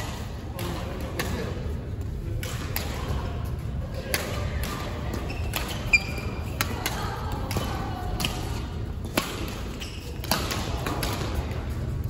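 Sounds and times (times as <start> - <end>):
rackets hitting shuttlecock: 0.0 - 11.9.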